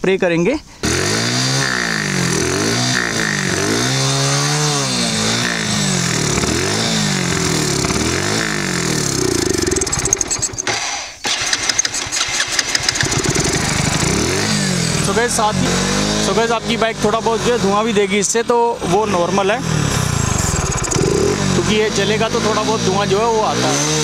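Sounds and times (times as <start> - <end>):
motorcycle engine revving: 0.8 - 24.0.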